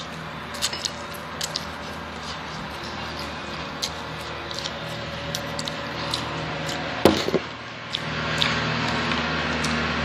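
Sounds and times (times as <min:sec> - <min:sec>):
wet chewing clicks and smacks: 0:00.0 - 0:07.0, 0:07.6 - 0:10.0.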